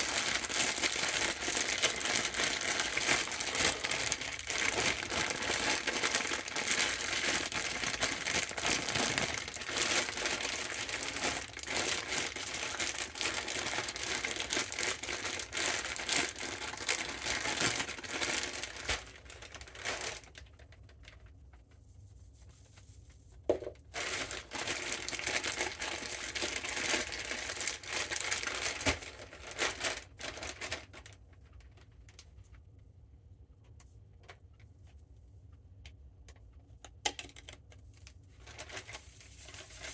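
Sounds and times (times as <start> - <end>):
crinkly material rustling: 0.0 - 33.0, 37.9 - 39.9.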